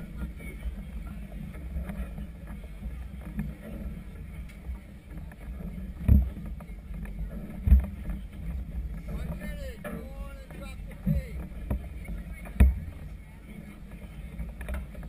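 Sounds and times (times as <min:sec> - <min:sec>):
choppy water: 0:00.0 - 0:15.0.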